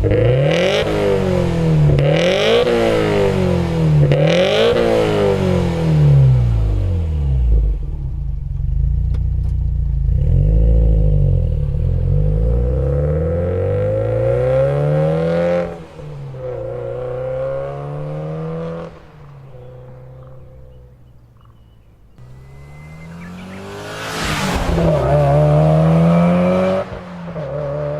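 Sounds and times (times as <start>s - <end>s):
car exhaust engine revving: 0.0s - 9.1s, 9.7s - 21.6s, 22.2s - 27.9s.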